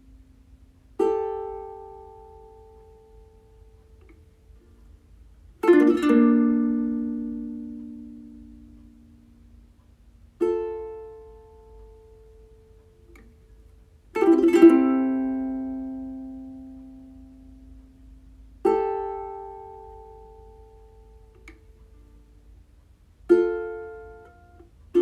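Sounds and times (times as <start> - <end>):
plucked string chords ringing: 1.0 - 4.7, 5.6 - 9.8, 10.4 - 22.4, 23.3 - 25.0.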